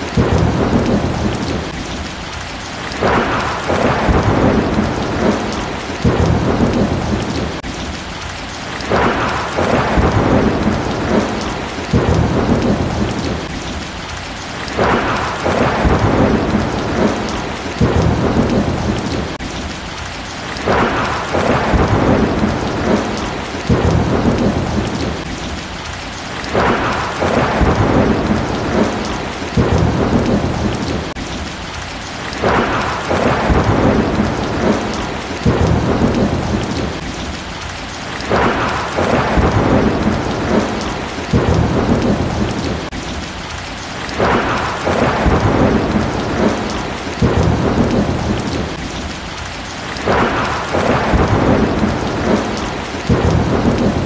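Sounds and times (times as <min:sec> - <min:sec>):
heavy rain pouring: 0:00.0 - 0:54.0
low thunder rumbling: 0:00.0 - 0:54.0.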